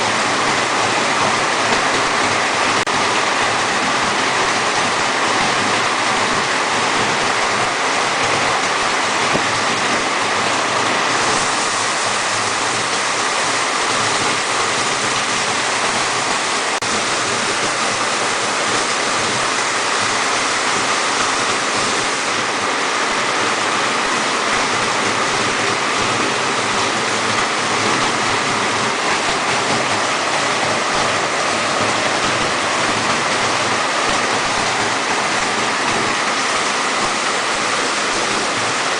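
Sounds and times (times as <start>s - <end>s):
storm water rushing: 0.0s - 38.9s.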